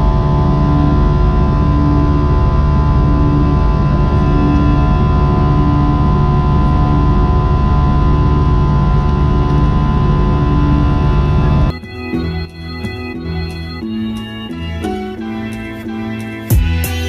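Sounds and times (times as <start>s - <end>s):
vehicle running steady hum: 0.0s - 17.0s.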